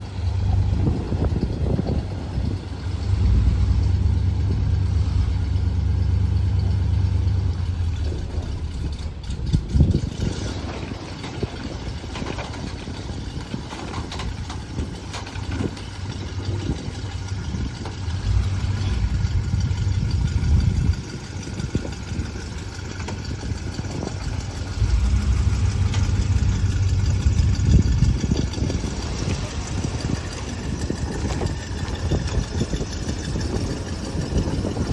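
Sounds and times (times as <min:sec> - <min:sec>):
pickup truck engine idling: 0:00.0 - 0:34.9.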